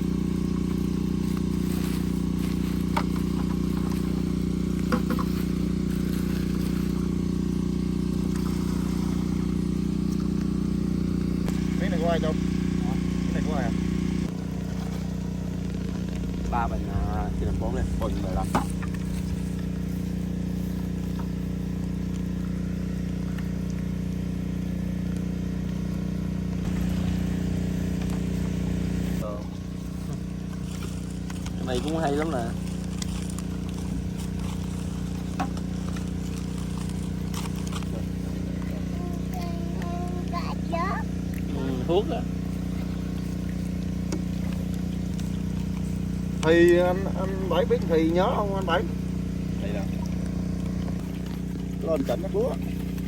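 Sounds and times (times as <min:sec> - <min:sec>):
drone rotors humming: 0:00.0 - 0:53.0.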